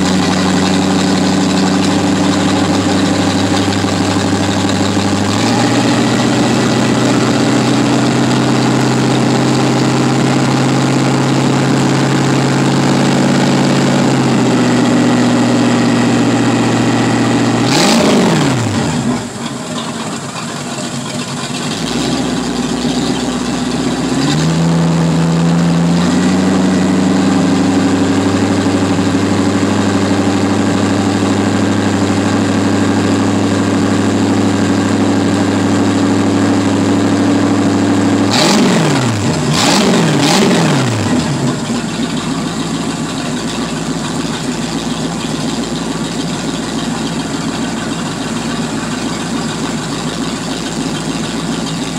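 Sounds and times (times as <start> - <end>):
boat engine idling and revving: 0.0 - 51.9.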